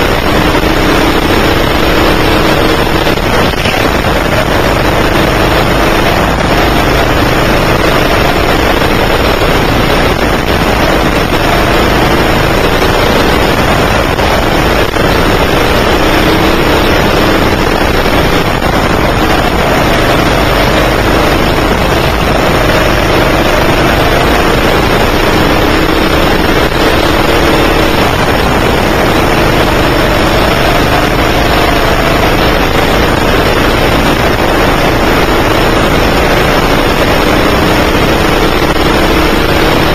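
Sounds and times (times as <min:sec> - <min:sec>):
kart engine running hard: 0:00.0 - 0:39.9
steady noisy hiss: 0:00.0 - 0:39.9.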